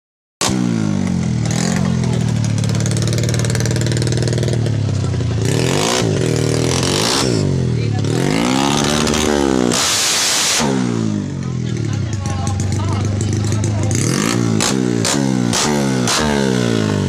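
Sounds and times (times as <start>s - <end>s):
motorcycle engine revving: 0.4s - 17.0s.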